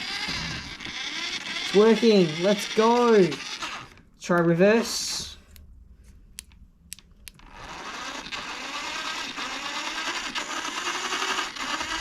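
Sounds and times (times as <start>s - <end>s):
electric motor and gears whirring: 0.0s - 5.6s, 6.4s - 12.0s.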